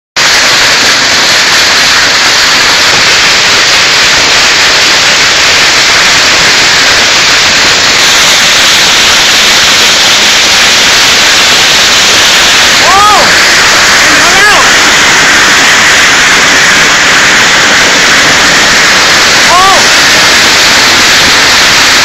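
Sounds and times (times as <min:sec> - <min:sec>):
hail and rain pelting down: 0:00.2 - 0:22.0.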